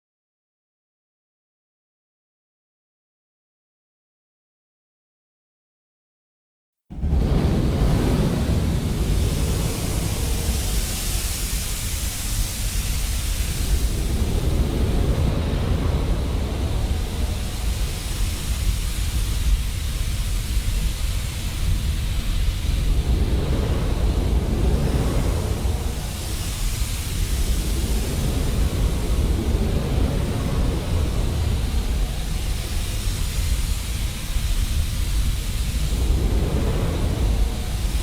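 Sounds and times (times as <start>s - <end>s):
flamethrower blast: 6.9s - 38.0s
pressurised gas hissing: 6.9s - 38.0s.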